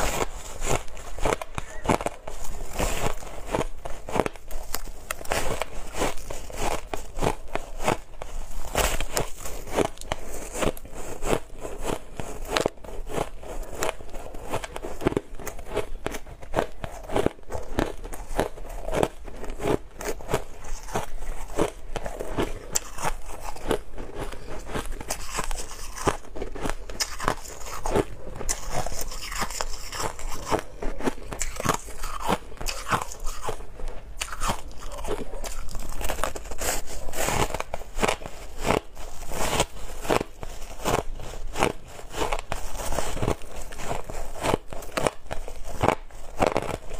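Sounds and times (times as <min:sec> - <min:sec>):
ice being chewed: 0:00.0 - 0:46.9.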